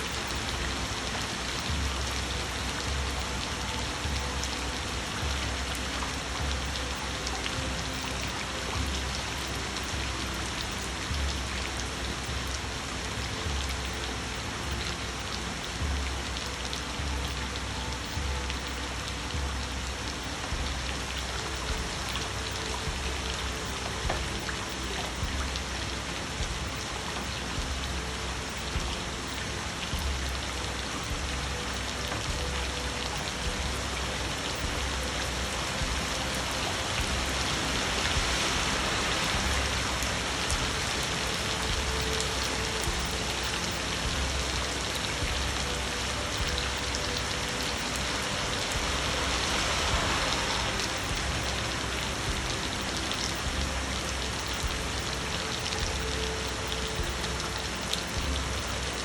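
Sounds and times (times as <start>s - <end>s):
raindrops ticking: 0.0s - 59.0s
steady rainfall: 0.0s - 59.0s.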